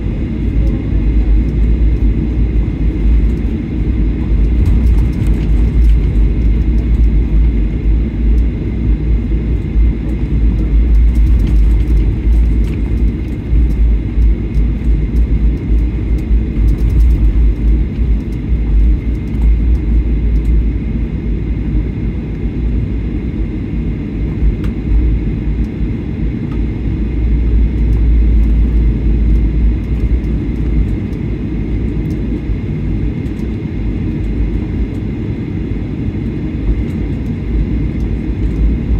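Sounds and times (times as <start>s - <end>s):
jet engines low rumble: 0.0s - 38.9s.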